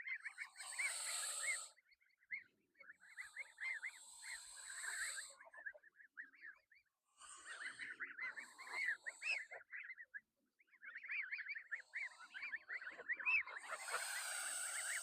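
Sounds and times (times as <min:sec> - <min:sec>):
birds chirping rapidly: 0:00.0 - 0:15.0.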